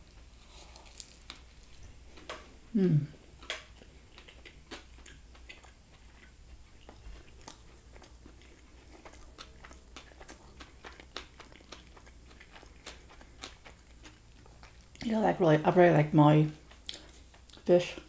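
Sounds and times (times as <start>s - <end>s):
chewing with mouth clicks: 0.1s - 15.1s, 16.5s - 18.0s.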